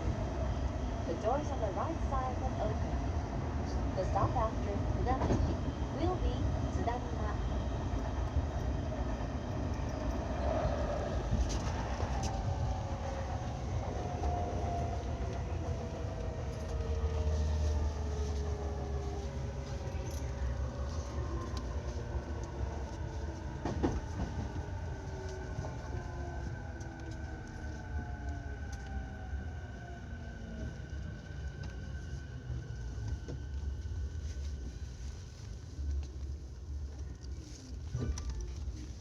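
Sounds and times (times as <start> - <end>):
wheels rumbling on rail: 0.0 - 39.0.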